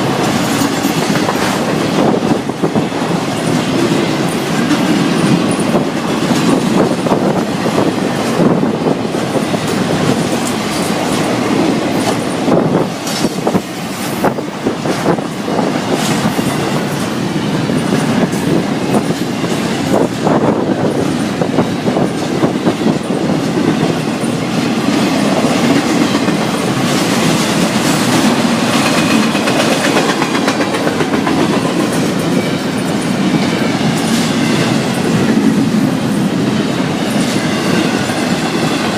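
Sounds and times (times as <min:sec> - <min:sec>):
freight train cars rolling past: 0:00.0 - 0:38.9
wheels clicking over rail joints: 0:00.0 - 0:38.9.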